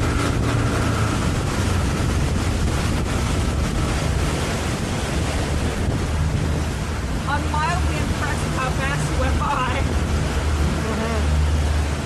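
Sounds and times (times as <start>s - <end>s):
motorboat engine drone: 0.0s - 12.0s
rushing water: 0.0s - 12.0s
wind buffeting microphone: 0.0s - 12.0s.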